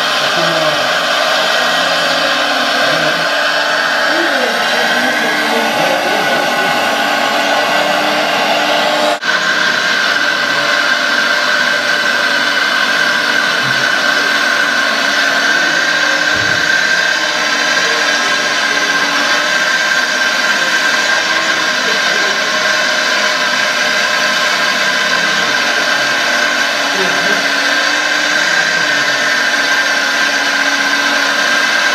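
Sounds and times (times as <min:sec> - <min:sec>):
hydraulic pump whining: 0:00.0 - 0:31.9.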